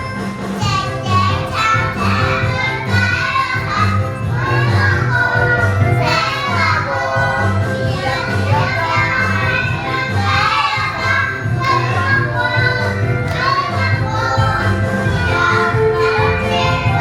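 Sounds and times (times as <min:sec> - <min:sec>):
children singing together: 0:00.6 - 0:17.0.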